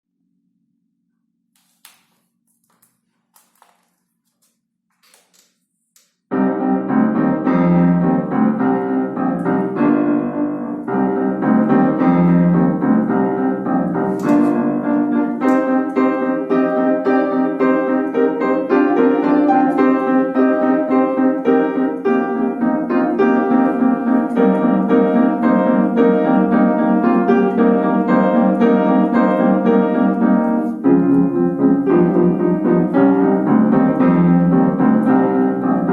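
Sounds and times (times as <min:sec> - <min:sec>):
solo piano playing: 0:06.3 - 0:35.9.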